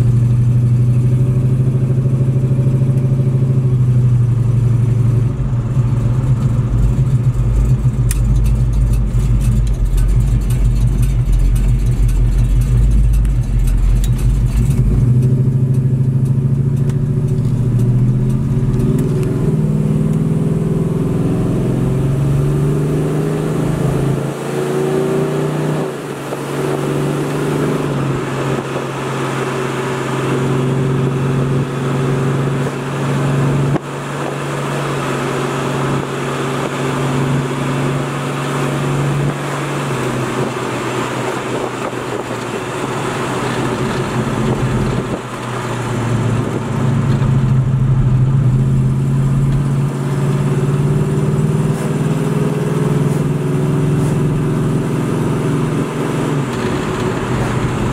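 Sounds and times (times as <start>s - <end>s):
car engine drone from cabin: 0.0s - 57.9s
road noise: 0.0s - 57.9s.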